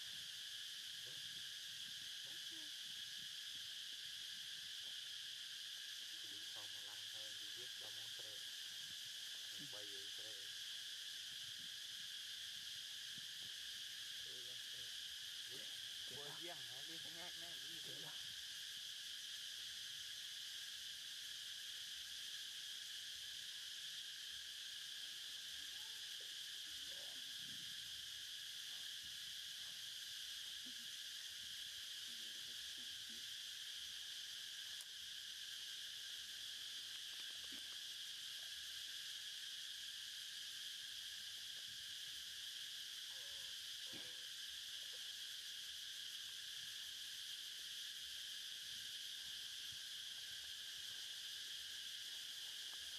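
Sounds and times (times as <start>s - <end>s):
insect chorus drone: 0.0s - 52.9s.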